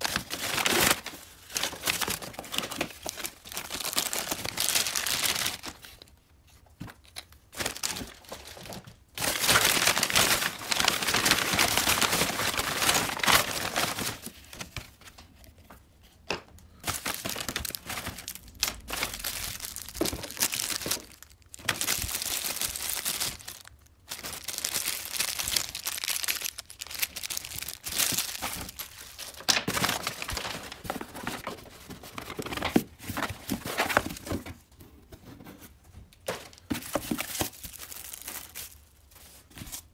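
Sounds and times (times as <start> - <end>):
paper and plastic bags crinkling: 0.0 - 15.7, 16.7 - 39.9.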